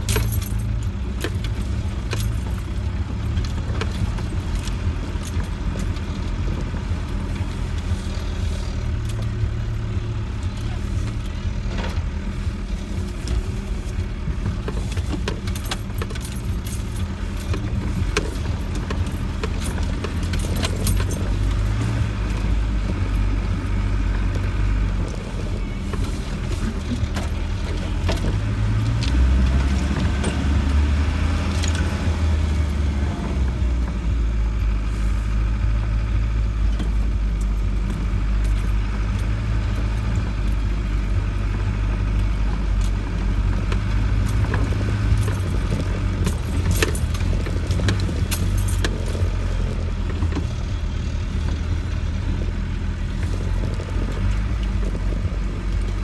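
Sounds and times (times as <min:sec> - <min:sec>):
cab fittings rattling: 0:00.0 - 0:08.0, 0:13.0 - 0:32.7, 0:36.7 - 0:56.0
vehicle engine under load: 0:00.0 - 0:56.0.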